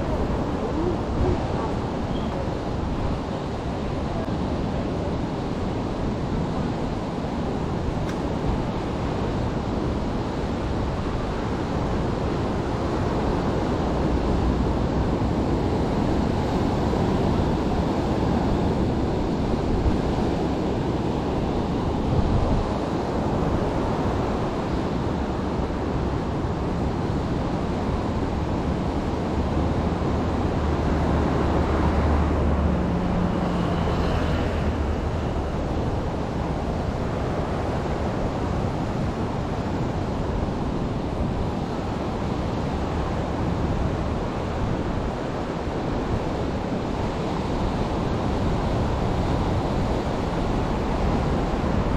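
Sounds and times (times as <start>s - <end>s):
sea surf: 0.0s - 51.9s.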